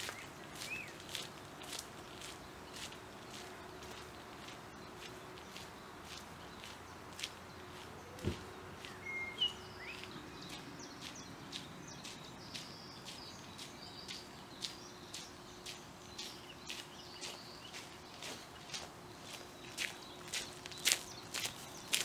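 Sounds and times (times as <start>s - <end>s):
footsteps on gravel: 0.0s - 22.0s
small birds chirping: 0.0s - 22.0s.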